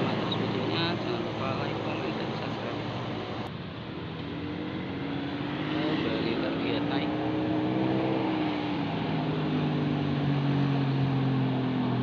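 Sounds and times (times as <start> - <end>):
bus engine pulling uphill: 0.0 - 12.0.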